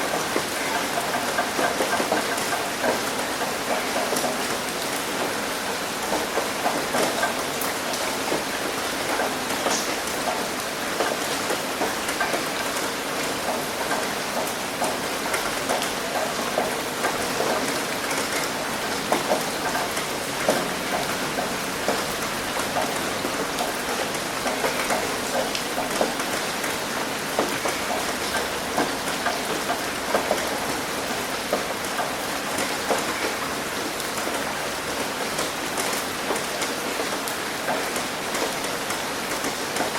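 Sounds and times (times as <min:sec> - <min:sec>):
rain hitting a roof: 0:00.0 - 0:39.9.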